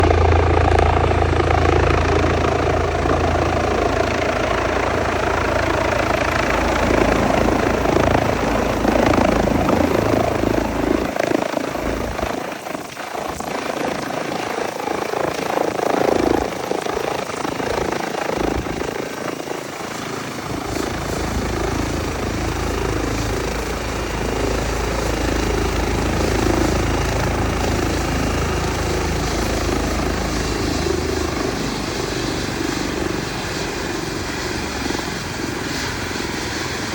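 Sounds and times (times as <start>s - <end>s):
helicopter rotor and engine: 0.0s - 36.9s.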